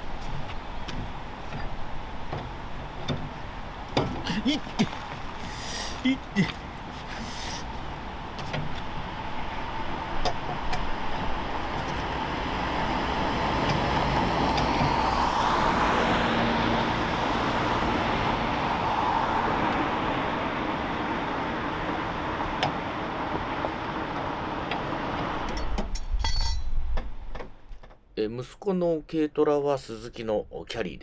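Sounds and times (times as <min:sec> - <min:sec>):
motor vehicle noise: 0:00.0 - 0:28.0.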